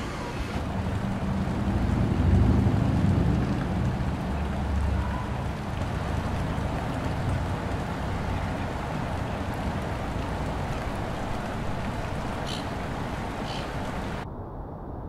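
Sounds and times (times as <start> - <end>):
boat engine rumbling: 0.0 - 14.2
water rushing: 0.0 - 14.2.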